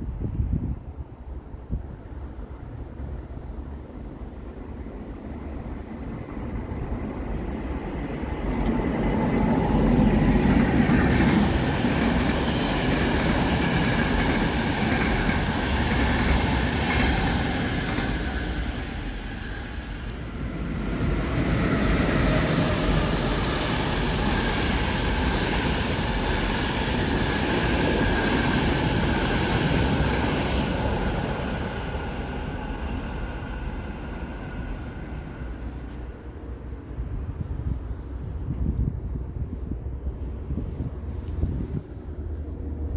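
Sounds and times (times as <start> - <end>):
passenger train rushing past: 0.0 - 42.9.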